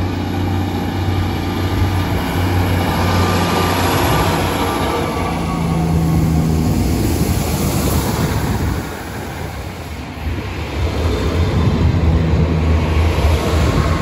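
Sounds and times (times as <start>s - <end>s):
train engine hum: 0.0s - 14.0s
wheels on rails: 0.0s - 14.0s.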